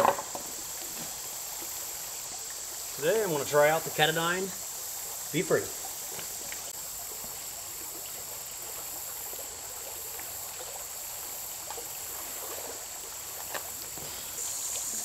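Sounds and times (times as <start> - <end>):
high insect drone: 0.0 - 15.0
river running over rocks: 0.0 - 15.0.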